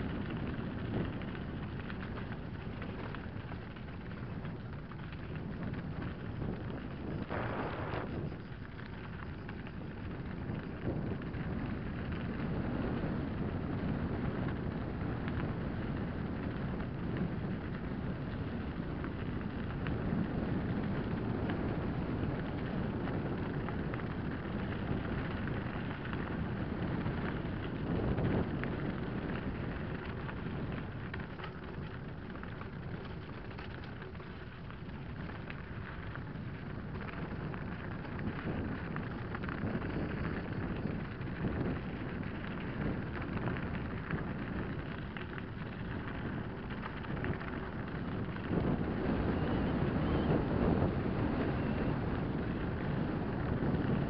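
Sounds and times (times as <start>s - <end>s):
bike tyres crunching on gravel: 0.0s - 54.0s
wind rushing on microphone: 0.0s - 54.0s.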